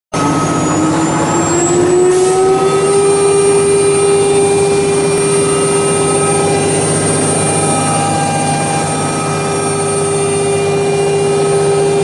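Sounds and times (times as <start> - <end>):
router spindle whining: 0.2 - 12.0.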